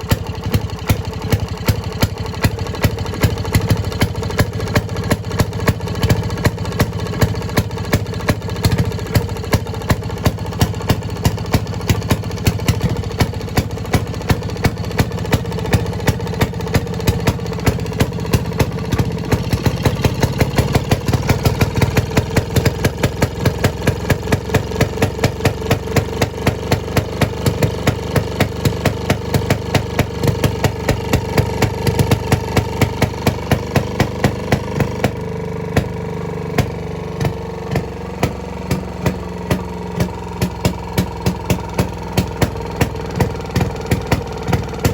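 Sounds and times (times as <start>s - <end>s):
two-stroke engine exhaust pops: 0.0s - 44.9s.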